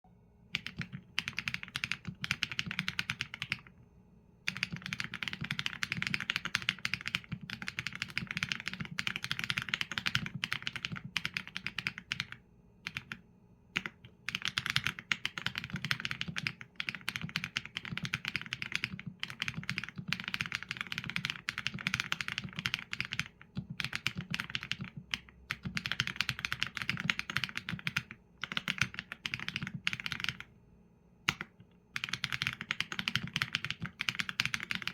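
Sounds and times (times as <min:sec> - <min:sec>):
mechanical keyboard typing: 0:00.5 - 0:03.7, 0:04.5 - 0:13.2, 0:13.8 - 0:30.5, 0:31.3 - 0:34.9.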